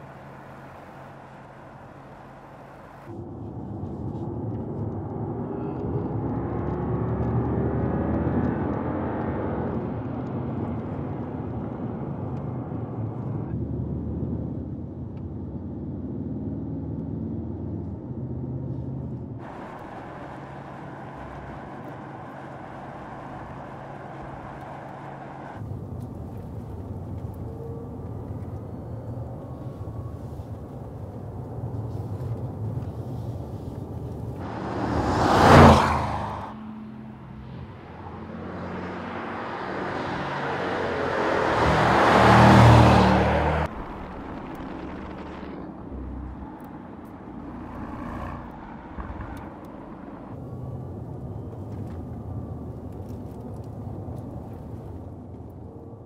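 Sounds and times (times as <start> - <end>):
car engine accelerating: 0.0 - 55.5
road noise: 0.0 - 56.0.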